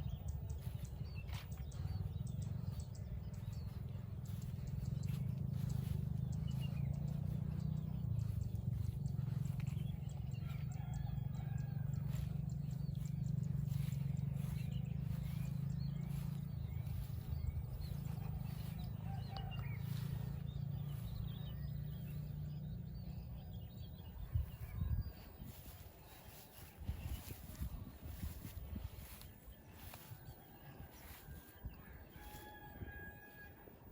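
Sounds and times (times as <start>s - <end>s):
steady low rumble: 0.0s - 32.9s
footsteps walking: 0.0s - 33.5s
small birds chirping: 0.0s - 33.9s.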